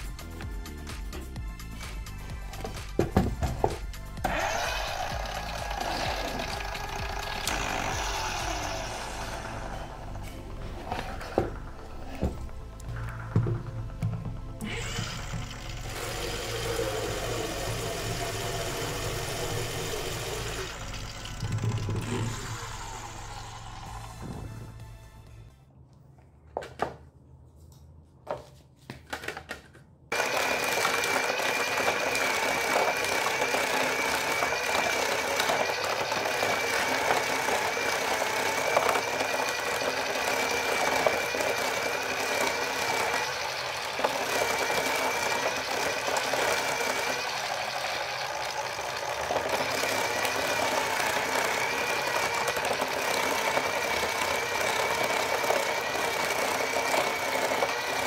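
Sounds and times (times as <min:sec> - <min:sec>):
electric motor whining: 0:01.9 - 0:25.1, 0:30.1 - 0:58.0.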